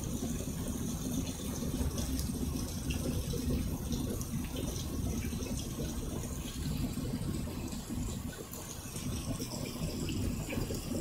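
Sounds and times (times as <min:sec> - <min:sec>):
faint drip ticks: 0:00.0 - 0:10.9
steady rain on concrete: 0:00.0 - 0:11.0.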